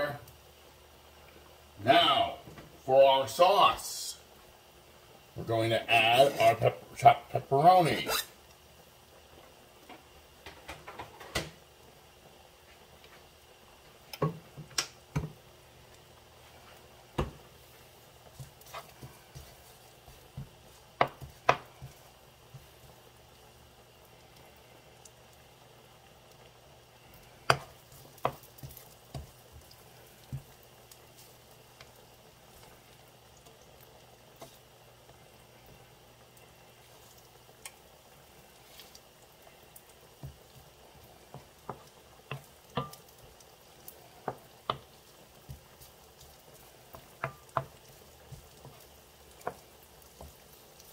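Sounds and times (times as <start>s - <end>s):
meat sizzling in a pan: 0.0s - 50.9s.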